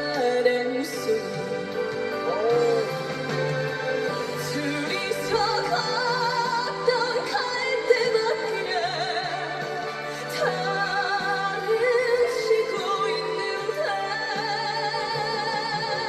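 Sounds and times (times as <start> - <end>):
instrumental accompaniment: 0.0 - 16.0
woman singing a slow ballad: 0.0 - 16.0.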